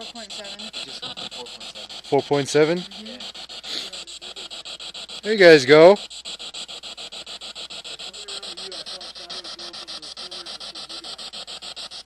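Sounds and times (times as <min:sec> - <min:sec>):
faint broadcast voice fragments: 0:00.0 - 0:06.0, 0:07.7 - 0:11.7
radio static chopping: 0:00.0 - 0:12.0.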